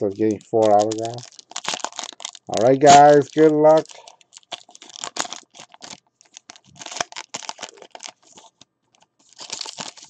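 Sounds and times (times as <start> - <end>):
wrapper tearing and crinkling: 0.0 - 10.0.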